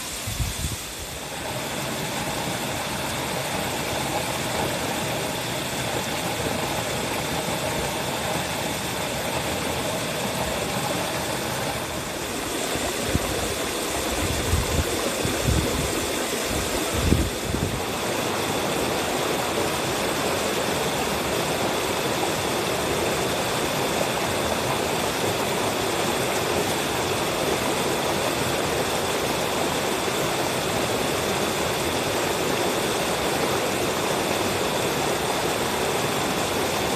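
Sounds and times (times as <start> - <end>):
stream rushing over boulders: 0.0 - 36.9.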